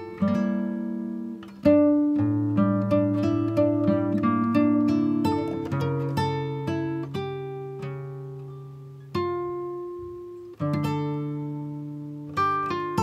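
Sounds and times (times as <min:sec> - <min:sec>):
plucked acoustic guitar chords: 0:00.0 - 0:13.0.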